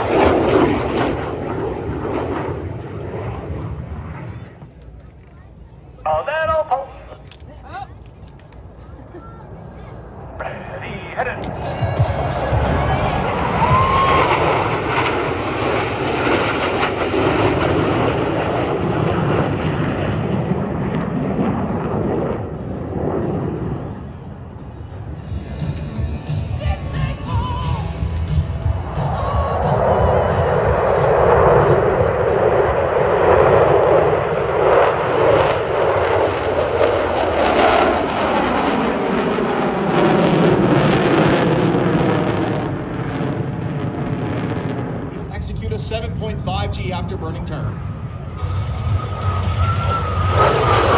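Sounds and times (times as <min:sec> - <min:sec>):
jet engines flying past: 0:00.0 - 0:50.9.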